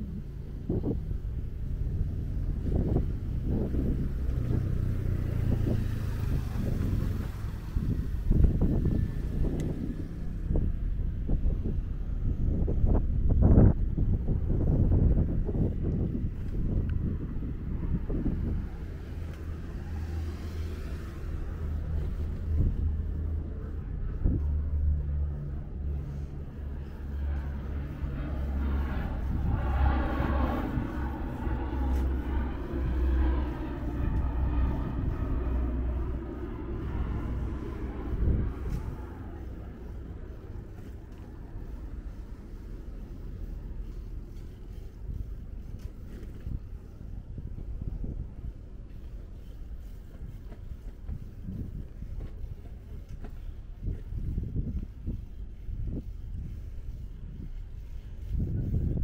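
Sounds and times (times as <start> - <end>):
low vehicle rumble: 0.0 - 59.0
steady low hum: 0.0 - 59.0.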